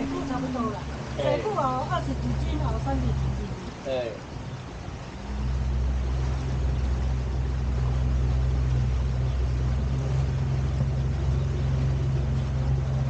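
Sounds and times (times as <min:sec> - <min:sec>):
electric boat motor hum: 0:00.0 - 0:13.0.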